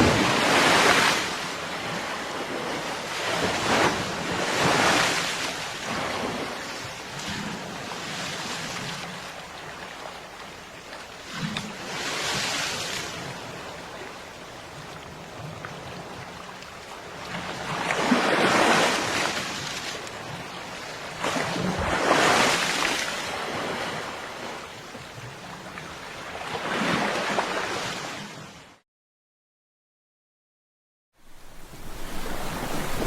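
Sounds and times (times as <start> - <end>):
waves breaking on a beach: 0.0 - 28.8, 31.2 - 33.0.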